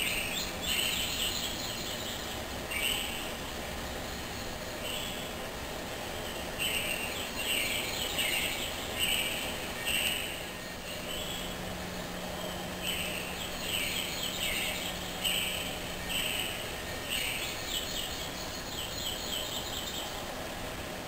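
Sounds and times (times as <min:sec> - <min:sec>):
birds chirping through tv speaker: 0:00.0 - 0:05.4, 0:06.1 - 0:20.3
low hum: 0:00.0 - 0:21.0
steady hiss: 0:00.0 - 0:21.0.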